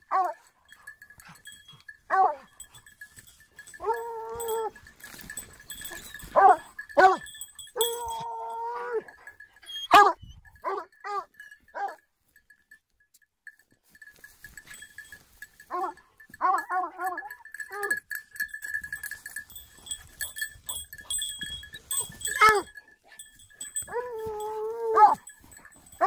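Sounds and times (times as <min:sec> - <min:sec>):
hound baying: 0:00.0 - 0:12.0, 0:14.7 - 0:26.0.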